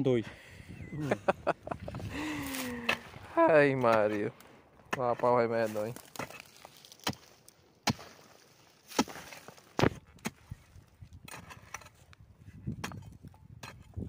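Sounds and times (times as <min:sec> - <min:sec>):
mattock striking packed dirt: 0:02.4 - 0:14.0.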